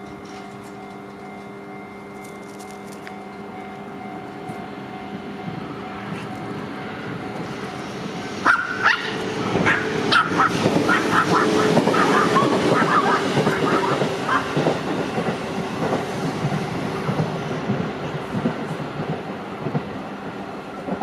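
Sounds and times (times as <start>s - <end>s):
train clattering: 0.0s - 21.0s
train rumble: 0.0s - 21.0s.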